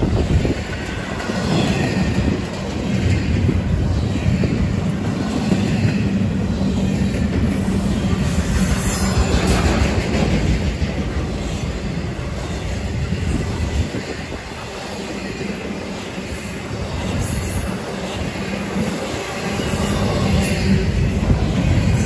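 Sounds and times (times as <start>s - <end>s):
freight train wheels clattering on rails: 0.0s - 22.0s.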